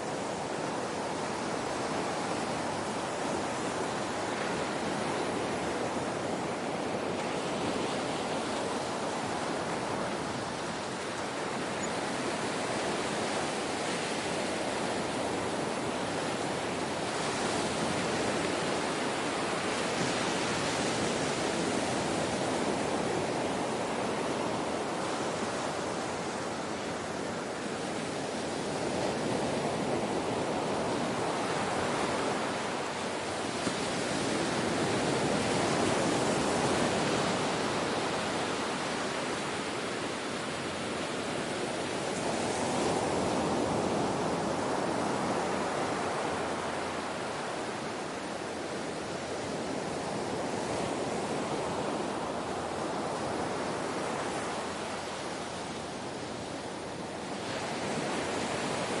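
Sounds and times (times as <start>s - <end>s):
ocean surf washing: 0.0s - 59.0s.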